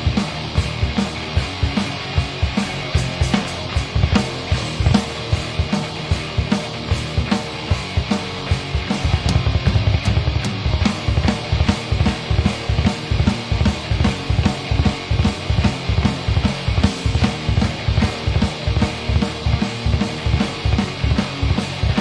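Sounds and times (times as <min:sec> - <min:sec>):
bass guitar: 0:00.0 - 0:22.0
distorted electric guitars: 0:00.0 - 0:22.0
drum kit: 0:00.0 - 0:22.0
fast bass drum beat: 0:00.0 - 0:22.0.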